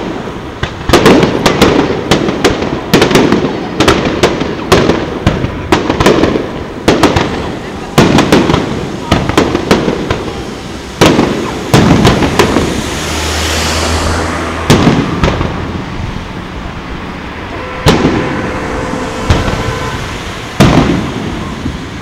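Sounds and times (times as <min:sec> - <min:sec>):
fireworks booming with rolling echo: 0:00.0 - 0:22.0.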